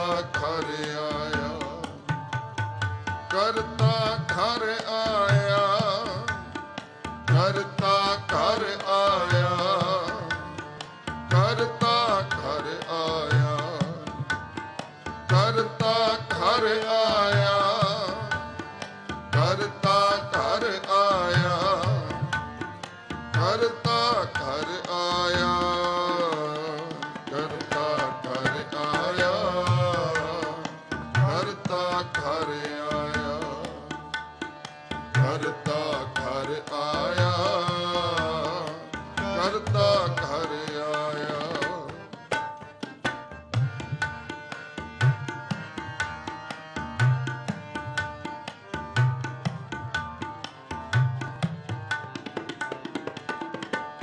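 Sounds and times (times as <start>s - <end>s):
harmonium drone: 0.0s - 54.0s
people singing devotional melody: 0.0s - 54.0s
tabla: 0.0s - 54.0s.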